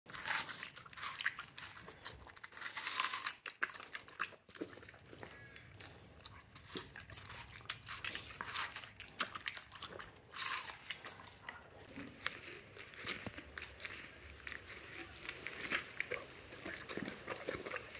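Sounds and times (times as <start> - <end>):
dog crunching watermelon: 0.1 - 17.9.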